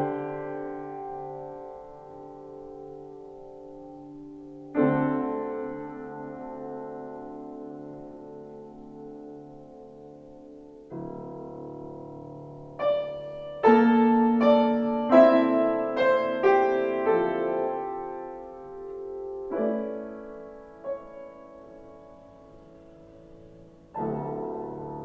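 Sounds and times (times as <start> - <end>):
piano playing slow chords: 0.0 - 25.0.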